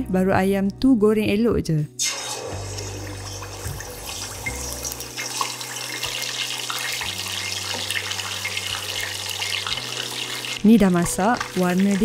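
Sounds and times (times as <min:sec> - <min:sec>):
chicken deep-frying in oil: 0:02.0 - 0:12.0.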